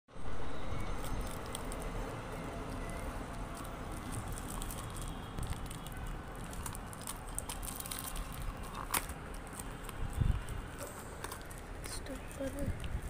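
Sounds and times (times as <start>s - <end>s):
plastic wrap crinkling: 1.0s - 13.0s.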